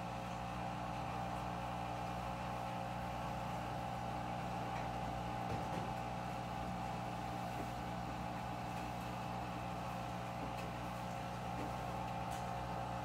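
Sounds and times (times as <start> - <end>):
washing machine drain pump humming: 0.0 - 13.0.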